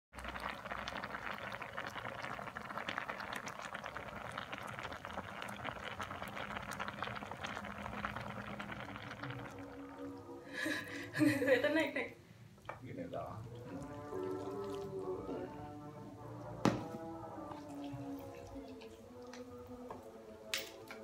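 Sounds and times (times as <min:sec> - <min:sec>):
sauce bubbling in frying pan: 0:00.1 - 0:11.5, 0:12.4 - 0:19.8.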